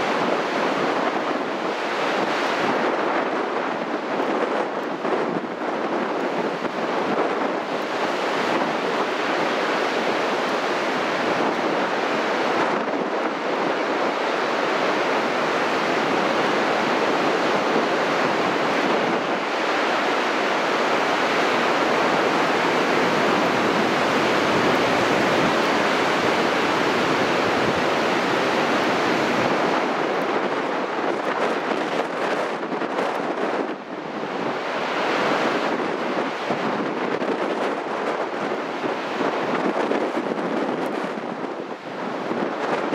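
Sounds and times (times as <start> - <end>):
heavy waves breaking: 0.0 - 42.9
wind noise on microphone: 0.0 - 42.9.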